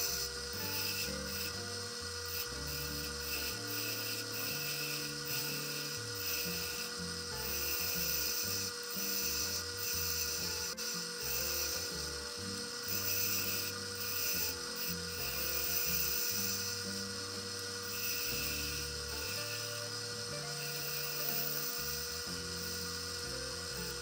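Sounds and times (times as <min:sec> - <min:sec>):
lathe motor whine: 0:00.0 - 0:24.0
turning tool cutting hiss: 0:00.0 - 0:24.0.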